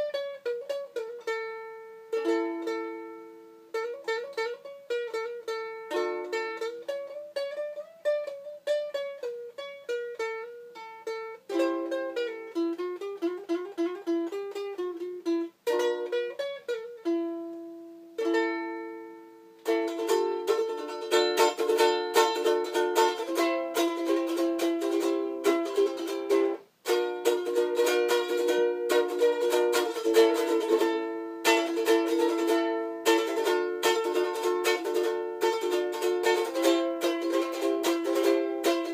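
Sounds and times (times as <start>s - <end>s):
ukulele playing: 0.0s - 38.9s.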